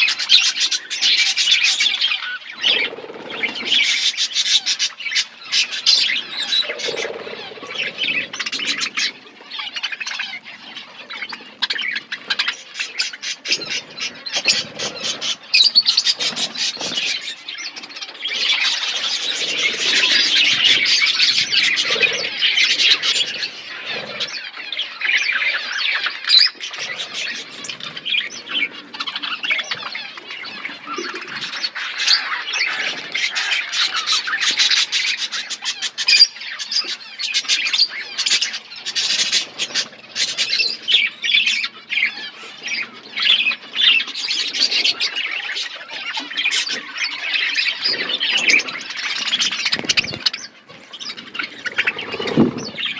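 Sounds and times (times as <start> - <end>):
budgerigars chattering and squawking: 0.0 - 52.9.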